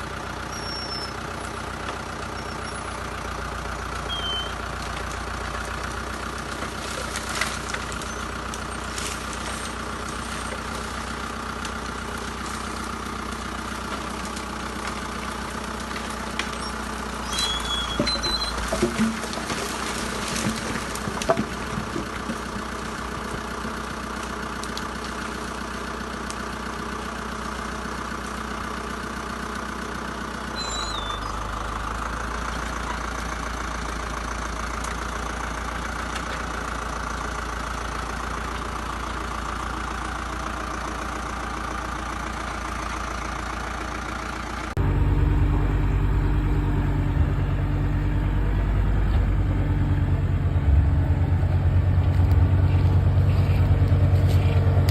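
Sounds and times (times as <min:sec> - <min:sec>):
heavy machine engine running: 0:00.0 - 0:54.9.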